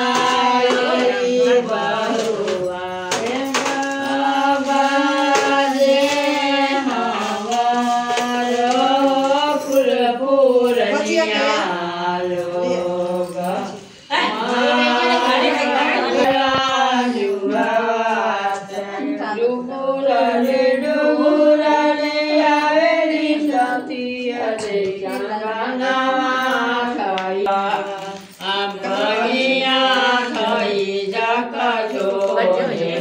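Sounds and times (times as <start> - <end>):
women singing devotional folk song: 0.0 - 33.0.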